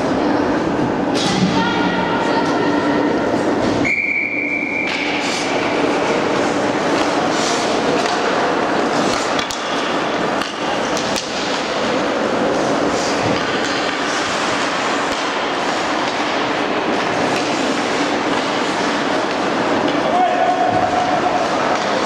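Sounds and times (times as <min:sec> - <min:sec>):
skating and arena noise: 0:00.0 - 0:22.0.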